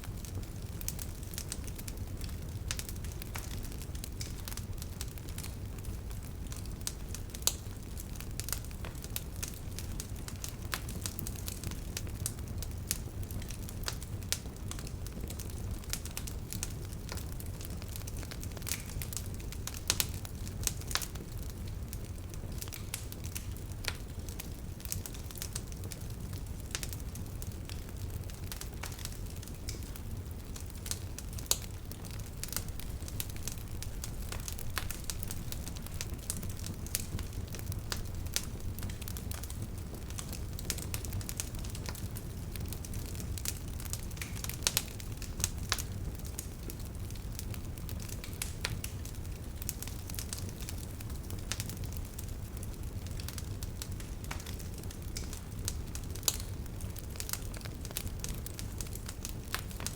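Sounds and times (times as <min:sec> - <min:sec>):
fire rumbling: 0:00.0 - 0:59.9
wood crackling and popping: 0:00.0 - 0:59.9.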